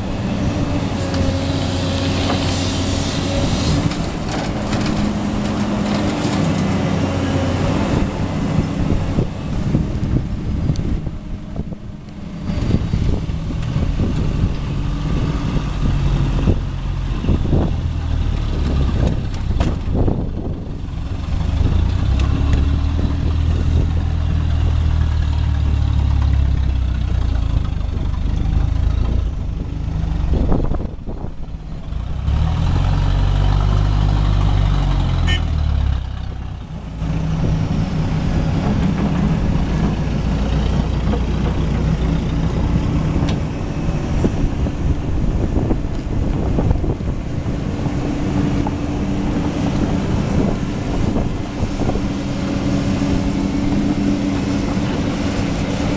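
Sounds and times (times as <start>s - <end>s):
diesel engine running and revving: 0.0s - 55.9s.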